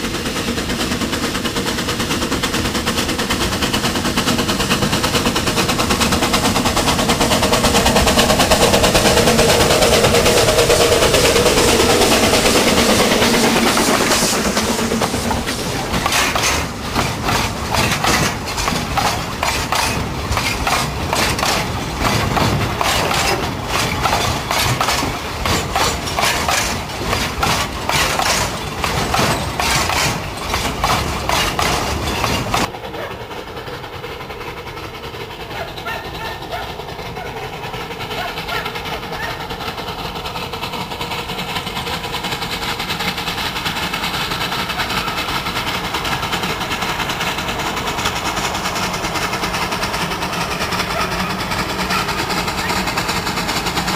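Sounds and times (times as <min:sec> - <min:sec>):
steam hissing from cylinders: 0:00.0 - 0:53.9
steam locomotive chuffing: 0:00.0 - 0:53.9
wagons clattering over rail joints: 0:00.1 - 0:33.4, 0:34.0 - 0:53.9.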